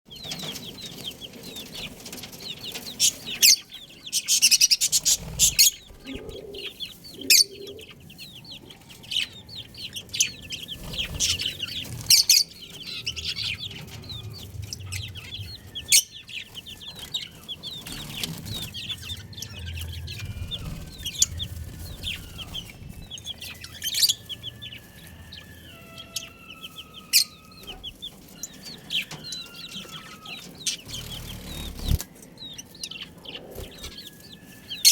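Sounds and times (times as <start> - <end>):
baby chicks peeping: 0.1 - 34.9.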